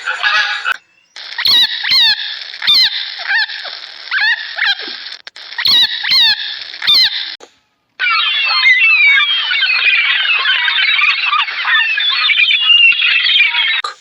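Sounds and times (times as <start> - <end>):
animal calling: 0.0 - 7.4, 8.0 - 14.0.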